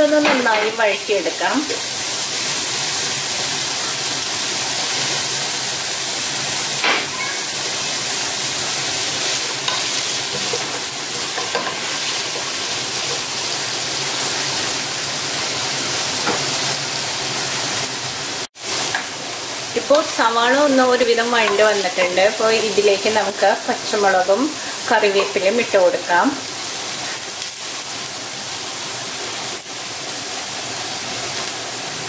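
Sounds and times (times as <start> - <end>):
food sizzling in hot oil: 0.0 - 32.0.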